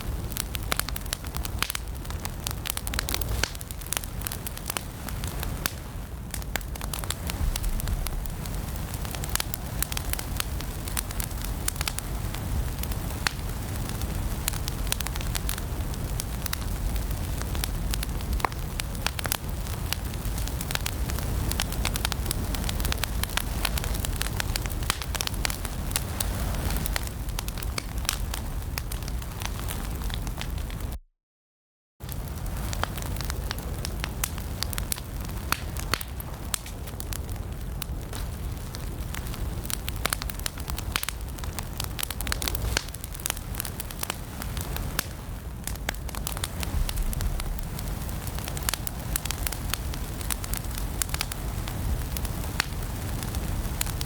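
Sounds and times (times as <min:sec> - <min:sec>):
low rumble of flame: 0:00.0 - 0:31.0, 0:32.0 - 0:54.0
wood fire crackling: 0:00.0 - 0:31.0, 0:32.0 - 0:54.0.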